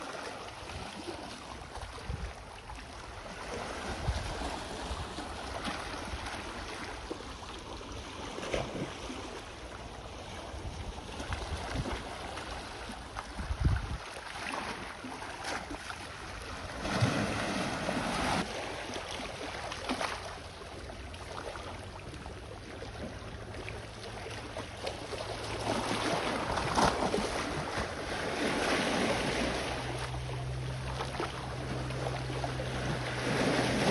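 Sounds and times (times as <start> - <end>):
ocean waves washing on shore: 0.0 - 33.9.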